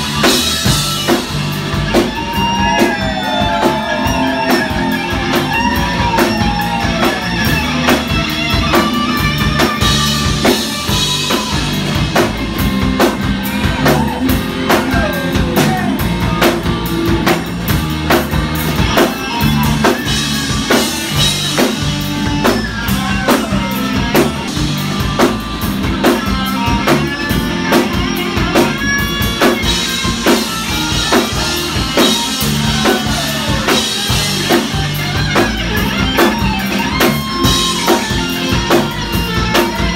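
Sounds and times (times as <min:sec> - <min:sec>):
drum beat: 0:00.0 - 0:39.9
lead guitar with string bends: 0:00.0 - 0:39.9
rock band playing: 0:00.0 - 0:39.9.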